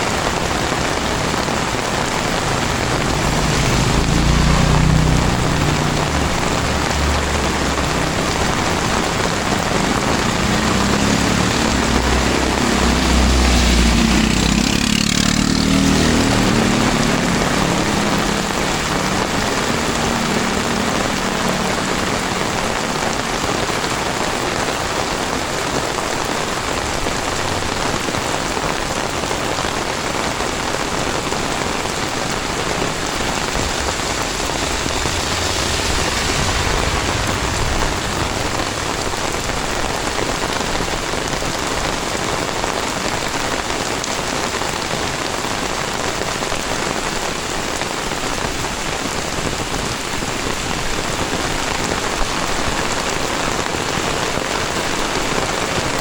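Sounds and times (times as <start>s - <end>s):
vehicle passing: 0.0s - 45.3s
heavy rain pouring: 0.0s - 56.0s.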